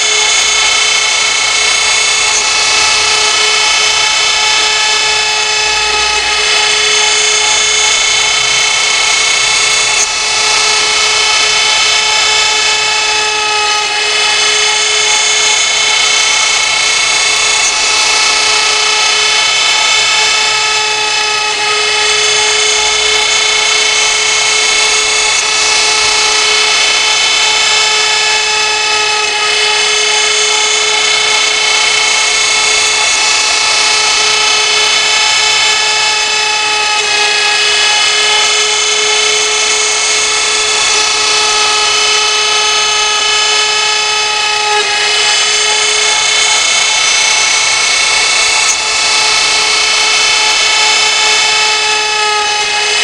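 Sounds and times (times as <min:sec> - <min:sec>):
hiss of cutting: 0:00.0 - 0:53.0
router spindle whining: 0:00.0 - 0:53.0.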